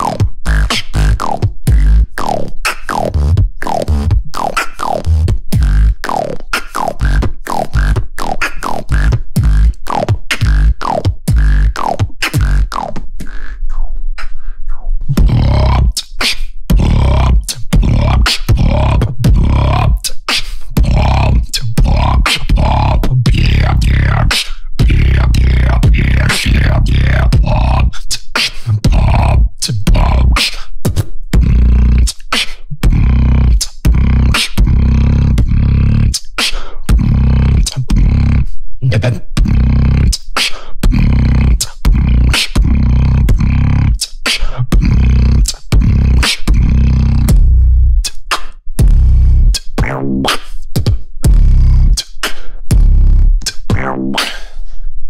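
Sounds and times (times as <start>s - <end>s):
beatboxing percussive mouth strokes: 0.0s - 54.8s
sustained vocal bass: 0.0s - 54.8s.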